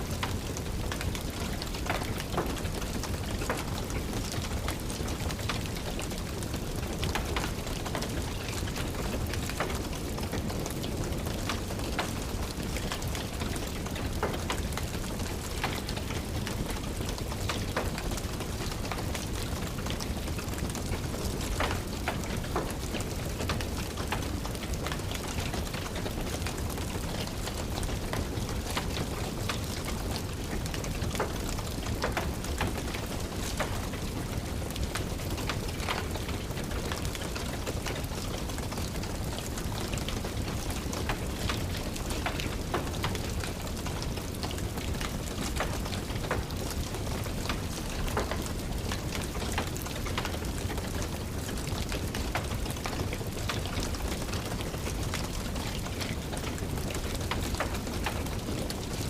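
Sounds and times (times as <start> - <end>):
fireplace fire crackling: 0.0 - 59.0
steady rain: 0.0 - 59.0.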